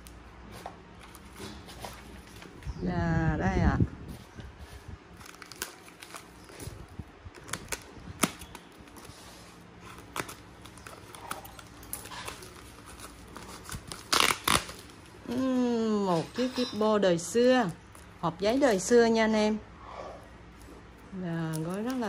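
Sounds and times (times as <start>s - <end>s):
foam wrap rustling and crinkling: 0.0s - 2.9s, 4.0s - 19.6s, 20.5s - 22.0s.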